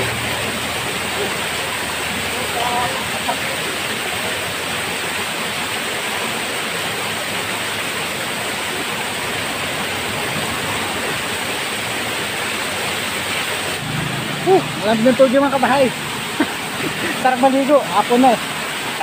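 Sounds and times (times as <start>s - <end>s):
waterfall pouring onto rocks: 0.0s - 19.0s.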